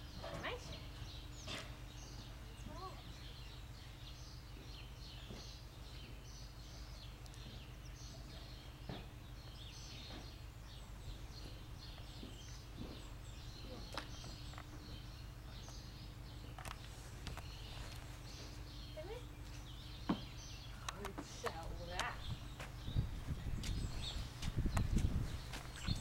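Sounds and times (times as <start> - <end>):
songbirds chirping: 0.0 - 26.0
steady low hum: 0.0 - 26.0.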